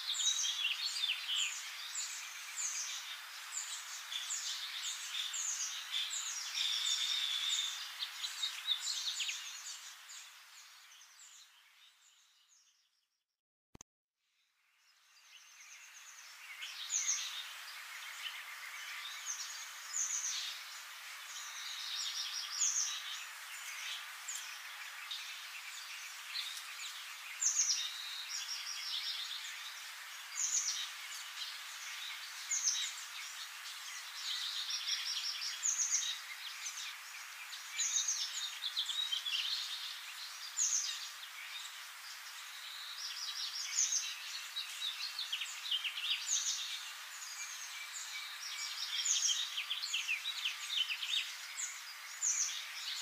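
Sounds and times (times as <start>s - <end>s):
steady hiss: 0.0s - 11.8s, 14.9s - 53.0s
birds singing and chirping: 0.0s - 12.8s, 15.2s - 53.0s.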